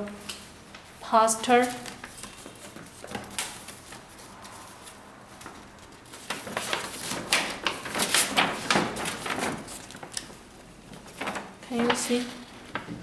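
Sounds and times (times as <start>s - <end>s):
paper poster rustling: 0.0s - 13.0s.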